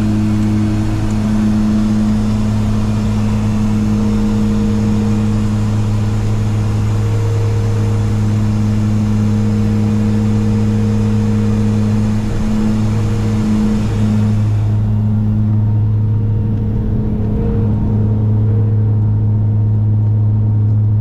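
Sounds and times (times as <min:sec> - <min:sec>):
propeller drone: 0:00.0 - 0:21.0.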